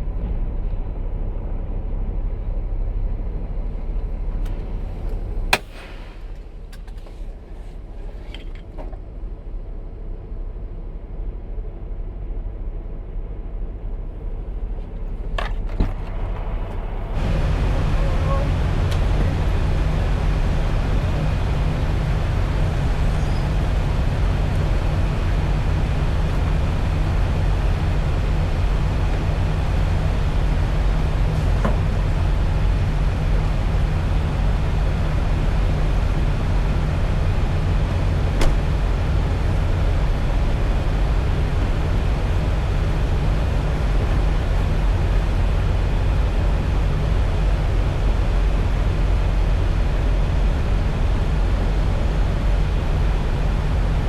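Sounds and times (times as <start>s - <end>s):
road noise: 0.0s - 54.0s
truck engine drone: 0.0s - 54.0s.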